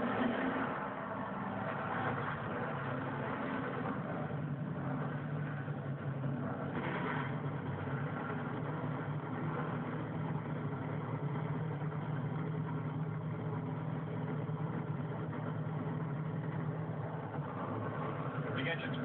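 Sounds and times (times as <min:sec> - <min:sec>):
race car engines idling: 0:00.0 - 0:19.0.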